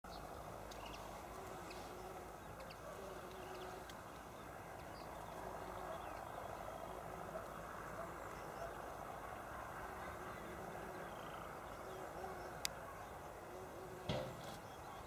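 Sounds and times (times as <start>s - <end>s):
faint low background noise: 0.1s - 15.0s.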